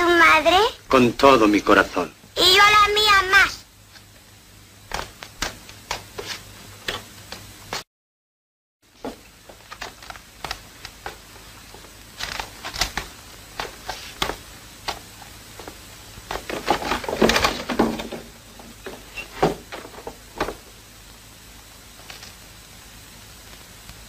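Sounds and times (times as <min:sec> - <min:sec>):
steady faint hiss: 0:00.0 - 0:07.8, 0:08.9 - 0:24.0.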